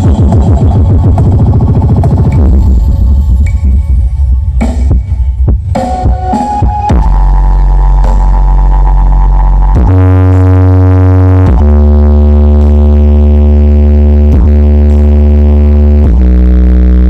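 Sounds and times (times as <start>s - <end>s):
synthesizer bass notes: 0.0s - 17.0s.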